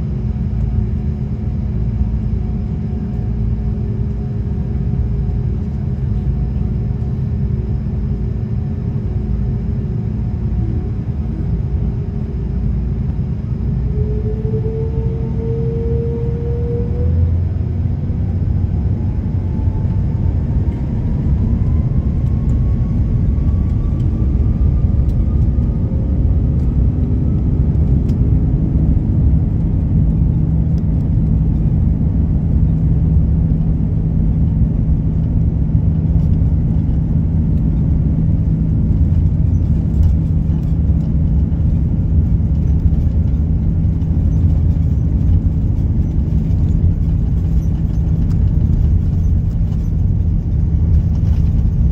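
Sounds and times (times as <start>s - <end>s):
jet cabin rumble: 0.0s - 51.9s
jet engine whine: 0.0s - 51.9s.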